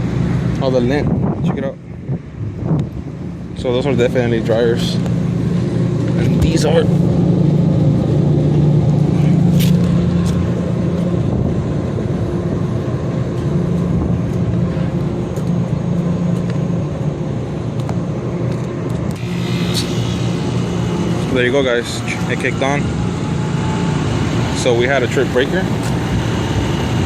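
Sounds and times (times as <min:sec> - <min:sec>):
hvac equipment humming: 0:00.0 - 0:27.0.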